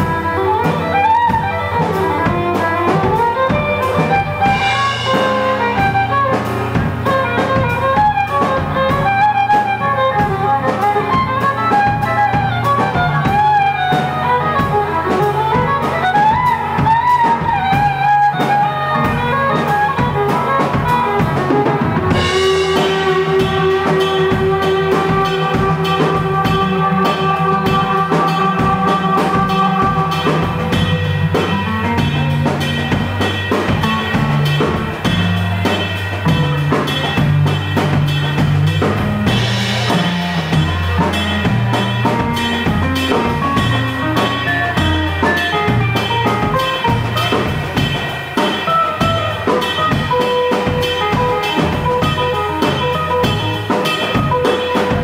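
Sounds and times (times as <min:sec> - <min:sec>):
busy drum beat: 0:00.0 - 0:55.0.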